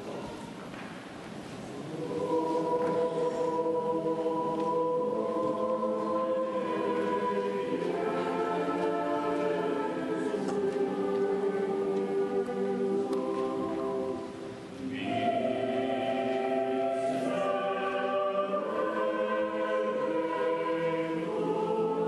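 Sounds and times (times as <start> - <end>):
church choir singing: 1.6 - 22.0.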